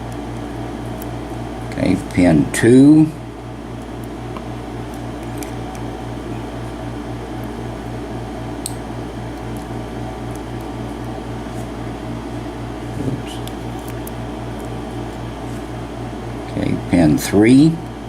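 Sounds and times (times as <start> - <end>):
mechanical fan hum with throb: 0.0 - 18.0.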